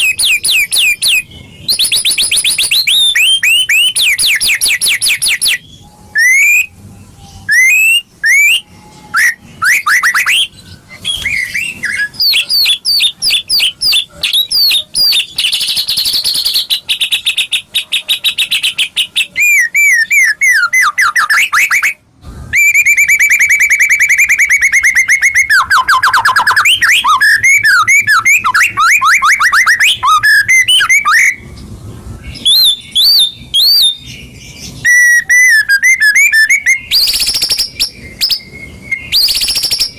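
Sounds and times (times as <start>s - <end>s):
bird song whistles and trills: 0.0s - 39.9s.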